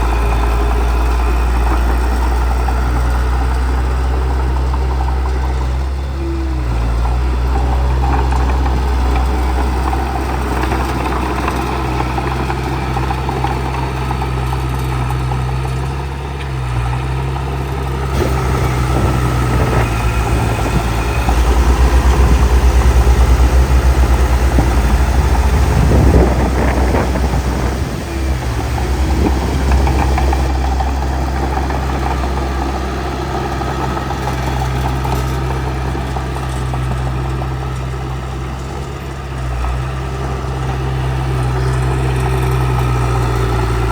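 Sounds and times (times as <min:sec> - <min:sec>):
bulldozer diesel engine running: 0:00.0 - 0:43.9.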